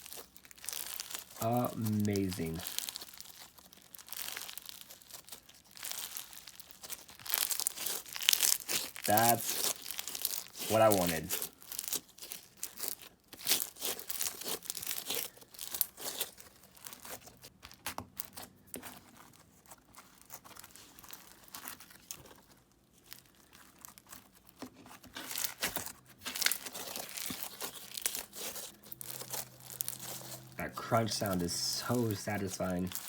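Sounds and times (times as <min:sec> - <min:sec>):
crunchy slime crackling: 0:00.0 - 0:33.0.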